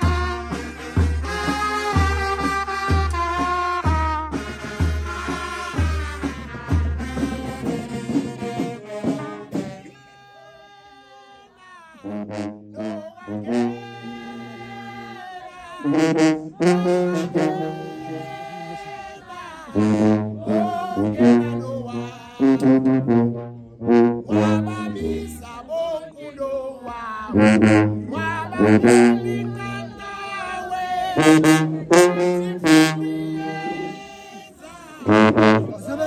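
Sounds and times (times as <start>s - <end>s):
brass band playing held chords: 0.0s - 10.4s, 12.0s - 25.7s, 27.3s - 36.0s.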